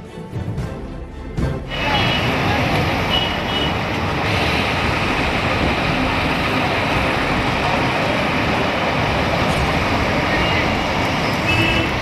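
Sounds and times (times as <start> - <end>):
pump engine running: 1.7 - 11.9
hose spraying water: 1.7 - 12.0.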